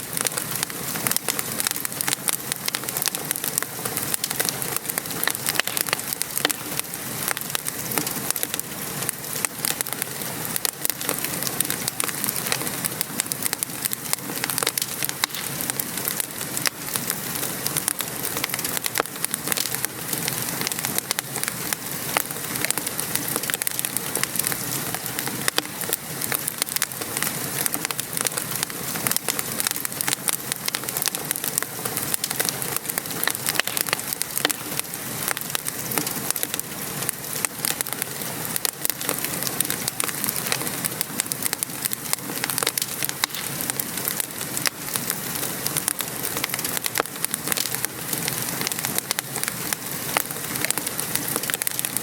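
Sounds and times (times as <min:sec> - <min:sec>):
rain pattering: 0:00.0 - 0:52.0
wood fire crackling: 0:00.0 - 0:52.0.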